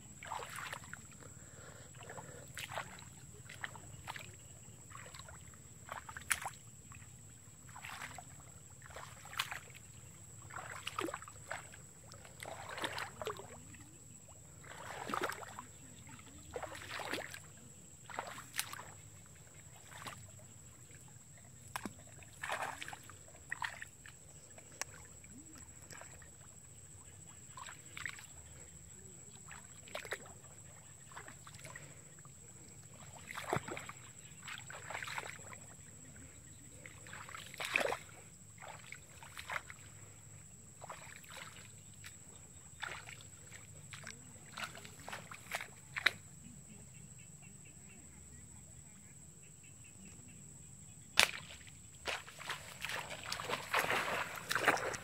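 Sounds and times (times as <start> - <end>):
feet wading through shallow water: 0.0 - 46.4, 51.2 - 55.0.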